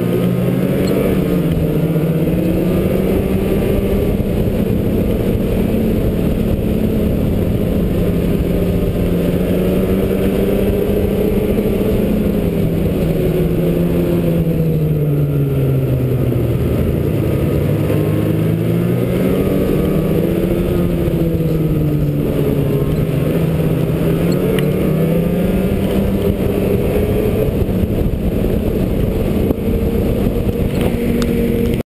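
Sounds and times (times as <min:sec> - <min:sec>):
snowmobile engine running: 0:00.0 - 0:31.8
snowmobile track noise: 0:00.0 - 0:31.8
wind rushing: 0:00.0 - 0:31.8.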